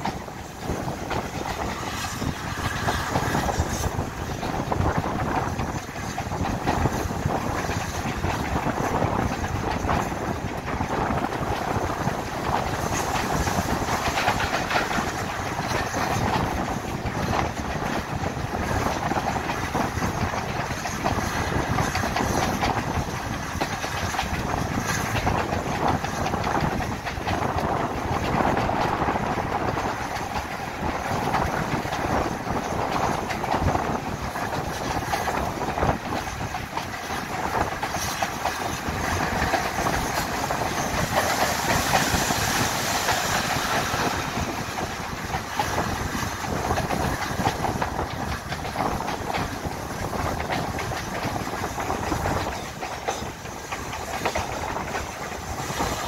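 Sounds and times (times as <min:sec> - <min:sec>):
rushing air: 0:00.0 - 0:56.0
train coach rumble: 0:00.0 - 0:56.0
wheels clicking over rails: 0:00.0 - 0:56.0.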